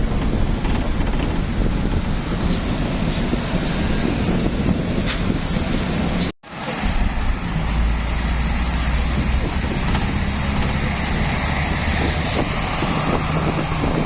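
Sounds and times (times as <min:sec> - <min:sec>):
highway traffic: 0:00.0 - 0:14.0
wind buffeting microphone: 0:00.0 - 0:14.0.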